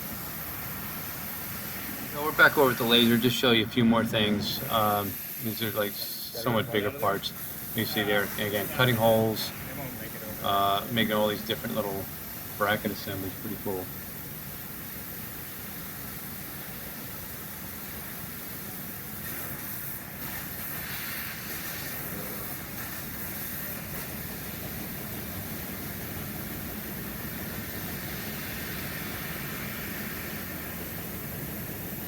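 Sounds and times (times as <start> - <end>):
laser cutting machine hissing: 0.0 - 32.0.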